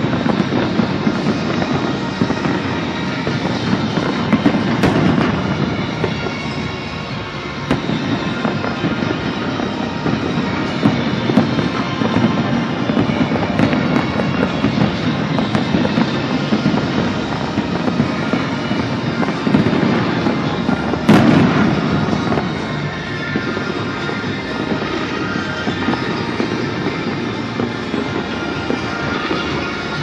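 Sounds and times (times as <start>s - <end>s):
fireworks crackling: 0.0s - 30.0s
loud firework bang: 0.0s - 30.0s.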